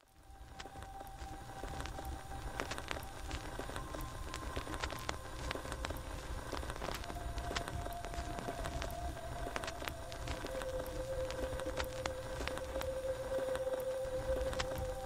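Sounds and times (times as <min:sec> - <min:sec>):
crackling hiss with clicks: 0:00.0 - 0:15.0.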